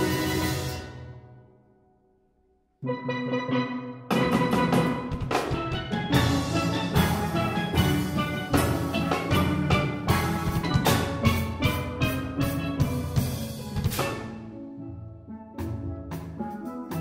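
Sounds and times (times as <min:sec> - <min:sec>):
drum kit and percussion: 0:00.0 - 0:01.3, 0:02.8 - 0:14.6, 0:15.6 - 0:17.0
steelpans playing: 0:00.0 - 0:01.5, 0:02.8 - 0:17.0.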